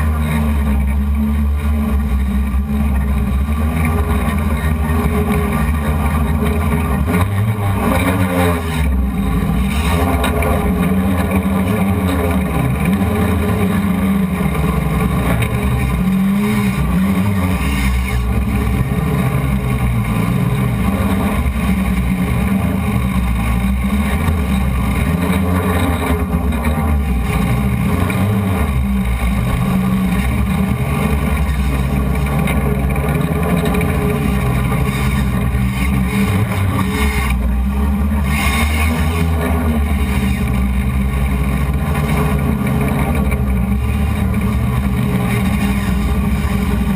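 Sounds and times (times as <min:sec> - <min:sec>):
drone motors buzzing: 0:00.0 - 0:46.9.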